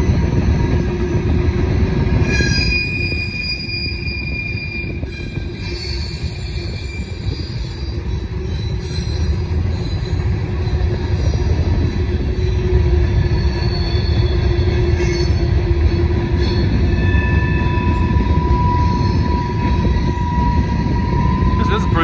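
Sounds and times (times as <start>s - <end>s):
train wheels rumbling on rail: 0.0s - 22.0s
wheel flanges squealing: 2.0s - 22.0s.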